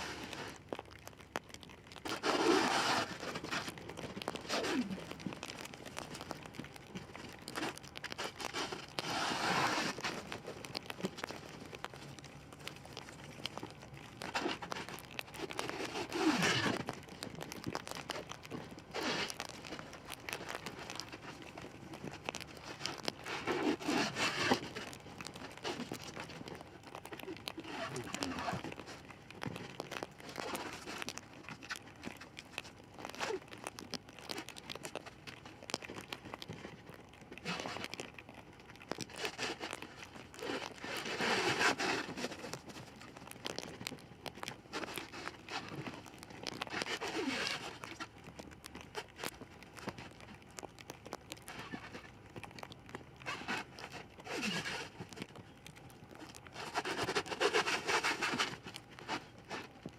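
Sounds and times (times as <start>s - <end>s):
plastic stretch film crinkling: 0.0s - 59.9s.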